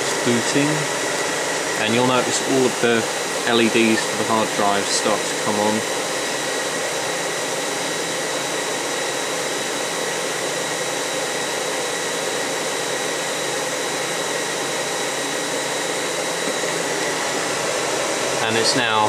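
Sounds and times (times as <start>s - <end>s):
cooling fan rushing: 0.0s - 19.0s
high-pitched steady whine: 0.0s - 19.0s.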